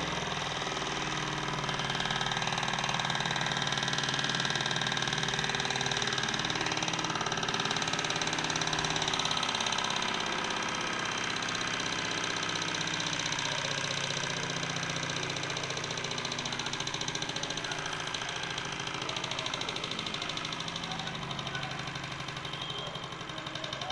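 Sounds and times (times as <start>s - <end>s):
model stirling engine clattering: 0.0s - 23.9s.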